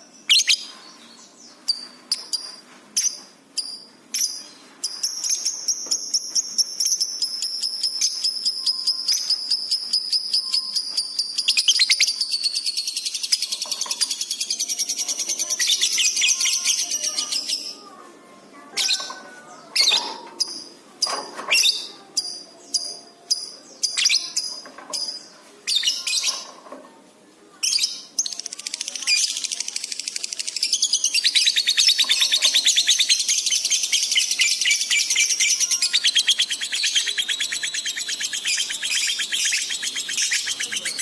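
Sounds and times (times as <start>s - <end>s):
lovebird chattering trill and chirps: 0.2s - 0.7s, 1.7s - 17.8s, 18.7s - 26.5s, 27.6s - 41.0s.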